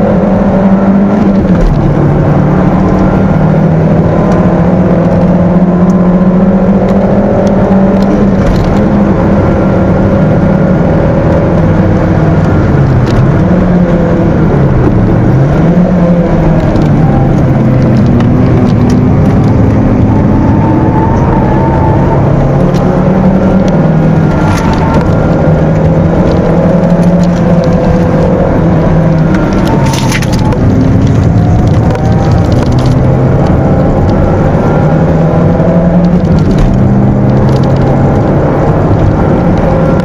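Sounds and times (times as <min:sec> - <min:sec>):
car engine revving hard: 0:00.0 - 0:40.0.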